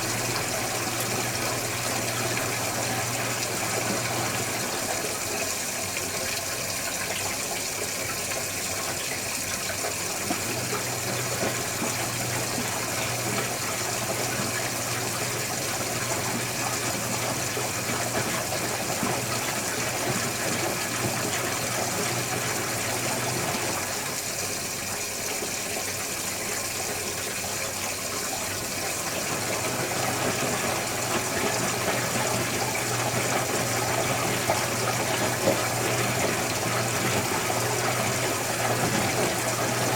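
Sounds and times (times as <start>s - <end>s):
water rushing in washing machine: 0.0s - 39.9s.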